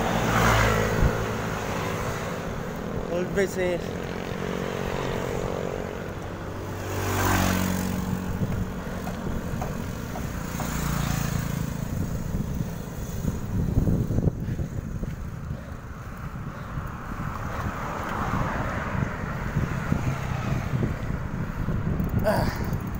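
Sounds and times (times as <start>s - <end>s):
vehicle passing close by: 0.0s - 22.2s
wind buffeting microphone: 0.0s - 22.9s.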